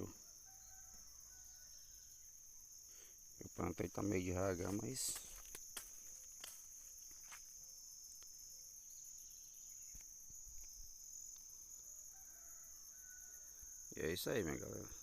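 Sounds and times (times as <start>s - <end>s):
insect chorus chirring: 0.0s - 15.0s.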